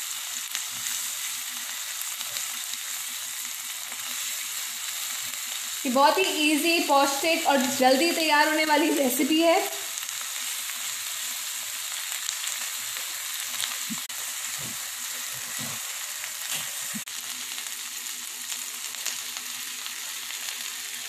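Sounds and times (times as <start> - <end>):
vegetables sizzling in frying pan: 0.0 - 21.0.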